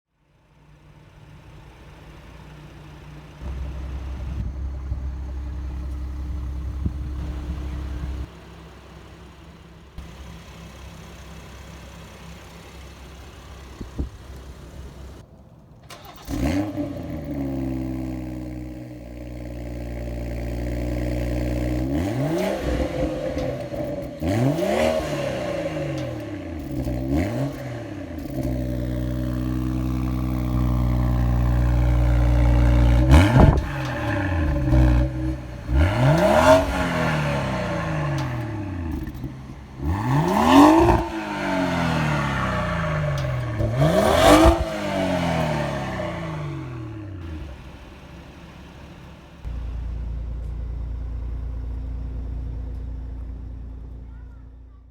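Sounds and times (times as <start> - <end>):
car exhaust idling: 0.2 - 16.0, 17.3 - 54.9
car engine revving: 1.2 - 50.1.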